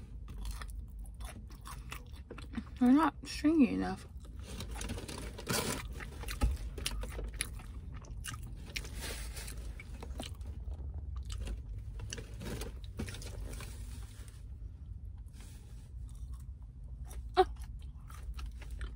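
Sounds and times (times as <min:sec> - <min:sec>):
person chewing crispy food: 0:00.0 - 0:02.8, 0:04.1 - 0:14.6, 0:15.2 - 0:18.9.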